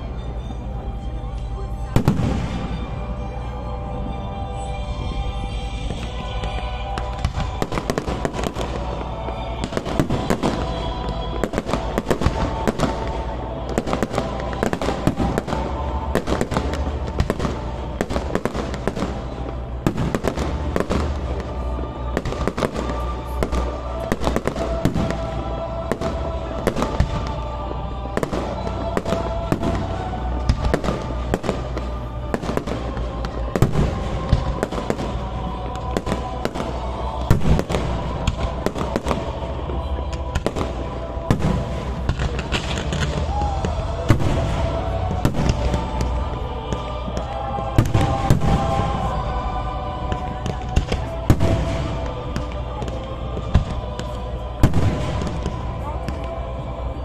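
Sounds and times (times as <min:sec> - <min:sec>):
music playing: 0:00.0 - 0:57.0.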